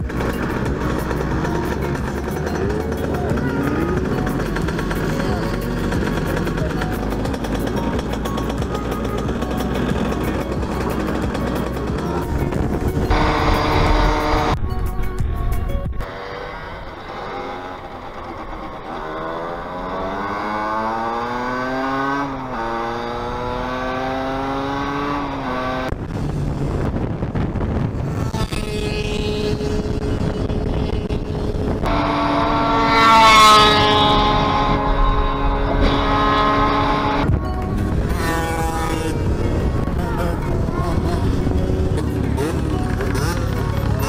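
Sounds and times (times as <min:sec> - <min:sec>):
motorcycle engines revving: 0:00.0 - 0:14.6, 0:15.9 - 0:44.0
high rising whine: 0:00.0 - 0:26.1, 0:26.9 - 0:44.0.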